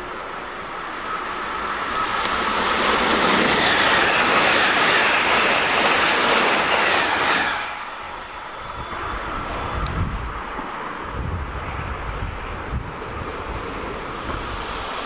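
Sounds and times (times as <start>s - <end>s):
train passing close by: 0.0s - 15.0s.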